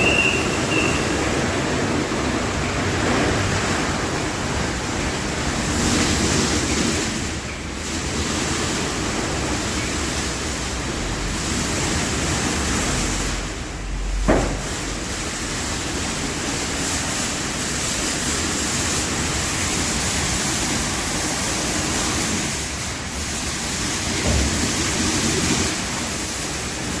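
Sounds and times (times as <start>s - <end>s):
automatic car wash rushing: 0.0s - 27.0s.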